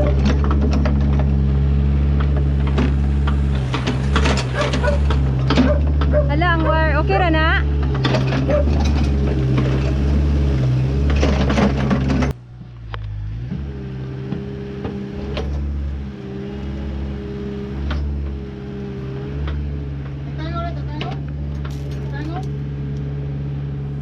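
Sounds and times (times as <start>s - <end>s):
backhoe diesel engine running: 0.0s - 24.0s.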